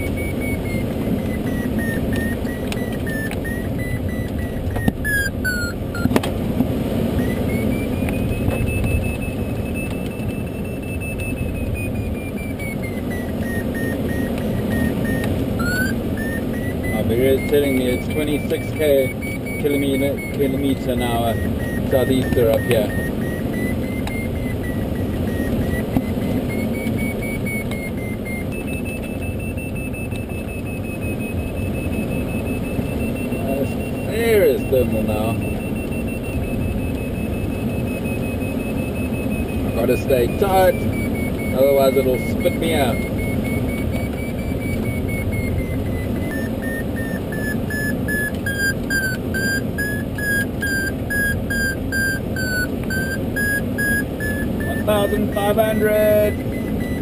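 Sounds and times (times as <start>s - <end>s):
variometer beeping: 0.0s - 57.0s
wind rushing around cockpit: 0.0s - 57.0s.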